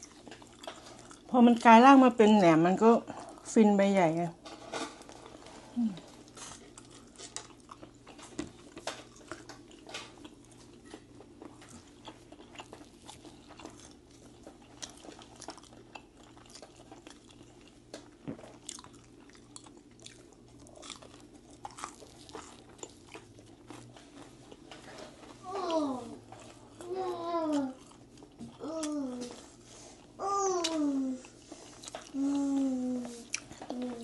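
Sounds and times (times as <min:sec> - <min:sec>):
person chewing crunchy food: 0:00.0 - 0:01.7, 0:05.0 - 0:34.0
faint steady hum: 0:00.0 - 0:34.0.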